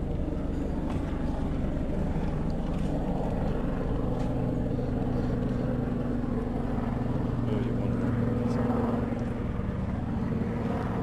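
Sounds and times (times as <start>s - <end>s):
low hum: 0.0s - 11.0s
vehicle engine rumbling: 0.0s - 11.0s.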